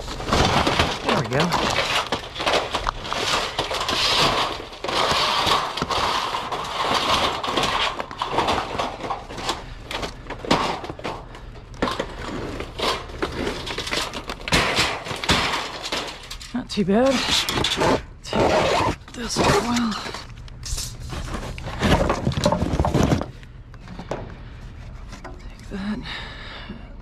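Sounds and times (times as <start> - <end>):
items scraping together: 0.0 - 25.7
junk clattering in dumpster: 0.0 - 26.7.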